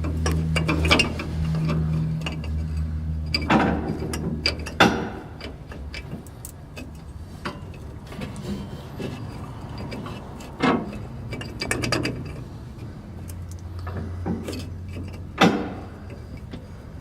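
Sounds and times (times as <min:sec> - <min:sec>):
metal parts clicking: 0:00.0 - 0:17.0.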